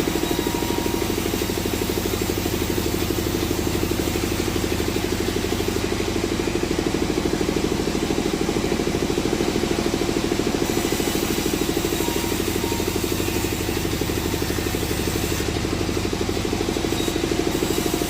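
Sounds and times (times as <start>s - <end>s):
sawmill engine running: 0.0s - 18.0s.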